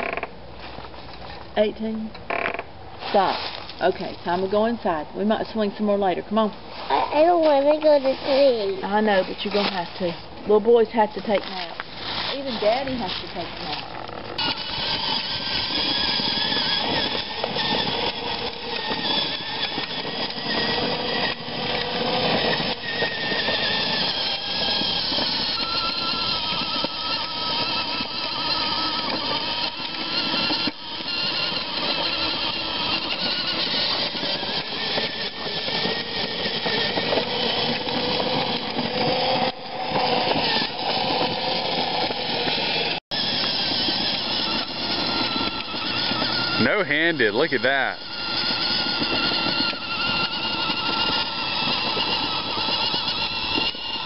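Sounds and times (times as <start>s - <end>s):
toy electric motor whining: 3.2s - 54.0s.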